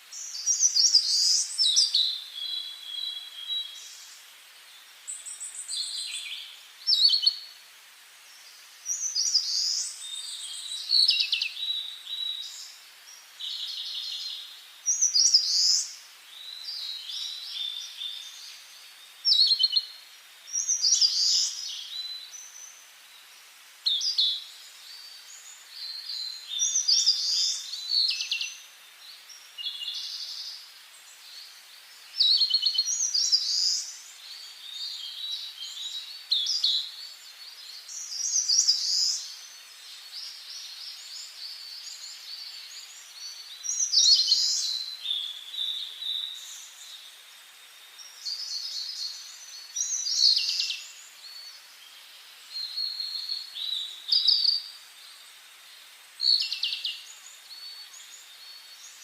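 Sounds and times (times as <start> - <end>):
faint steady hiss: 0.0 - 59.0
songbirds singing: 0.0 - 59.0.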